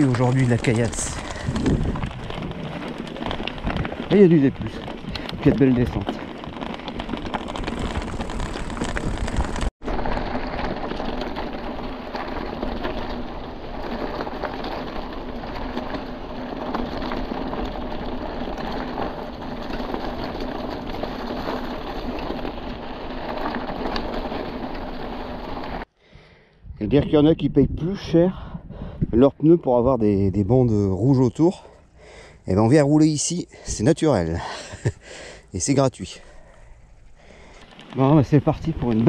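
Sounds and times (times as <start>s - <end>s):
bike rattling: 0.0s - 25.9s, 29.7s - 39.0s
bike tyres crunching on gravel: 0.0s - 25.9s, 30.1s - 39.0s.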